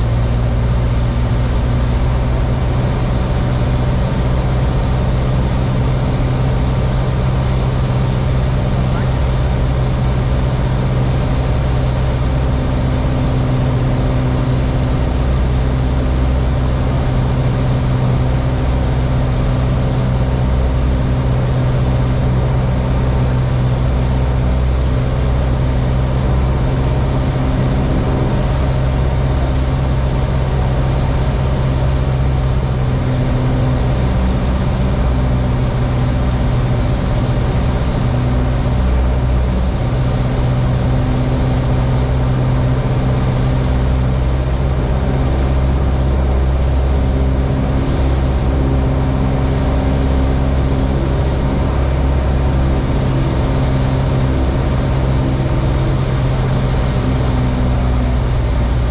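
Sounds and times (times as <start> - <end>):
aircraft engine and propeller drone: 0.0 - 58.9
constant rush of noise: 0.0 - 58.9.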